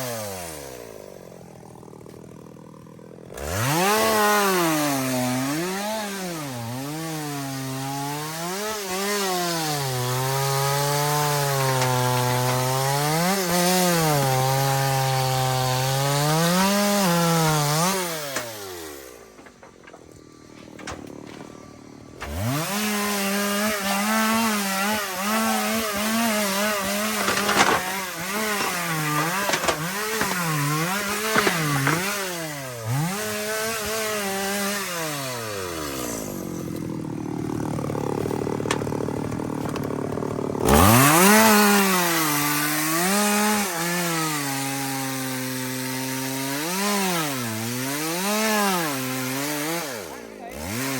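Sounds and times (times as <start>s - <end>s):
chainsaw cutting tree trunk: 0.0s - 50.9s.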